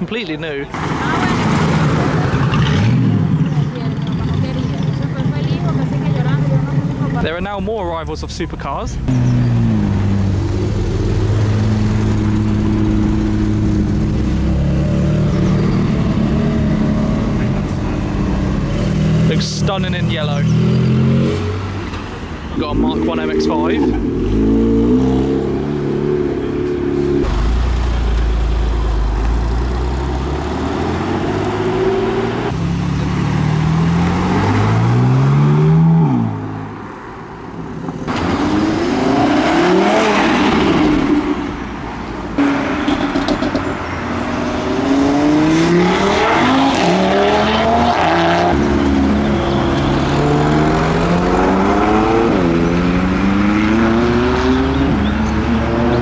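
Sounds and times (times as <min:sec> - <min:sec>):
performance car engines accelerating: 0:00.0 - 0:56.0.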